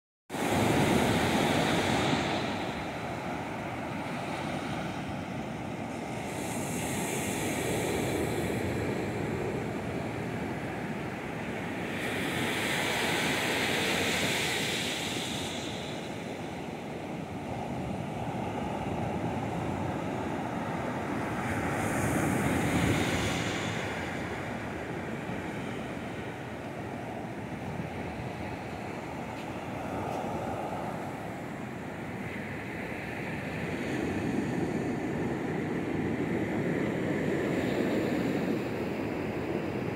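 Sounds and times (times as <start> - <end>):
ocean waves breaking on beach: 0.3 - 39.9.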